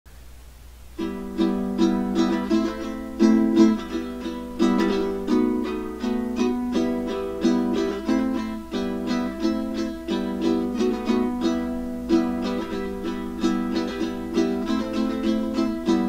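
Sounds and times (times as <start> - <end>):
ukulele strumming chords: 0.9 - 16.0.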